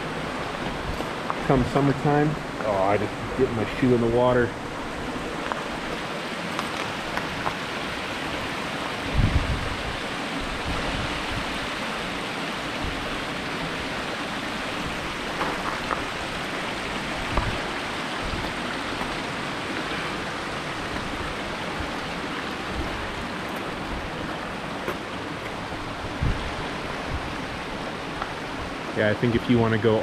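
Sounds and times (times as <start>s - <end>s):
creek water flowing over rock: 0.0s - 30.0s.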